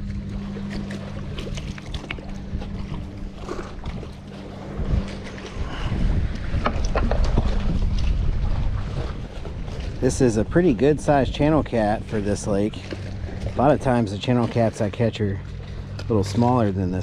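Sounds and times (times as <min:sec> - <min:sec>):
wind buffeting the microphone: 0:00.0 - 0:15.1
steady low hum: 0:00.0 - 0:17.0.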